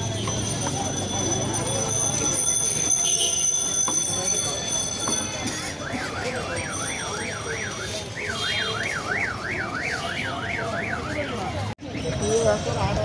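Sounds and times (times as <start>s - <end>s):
busy street hubbub: 0.0s - 13.0s.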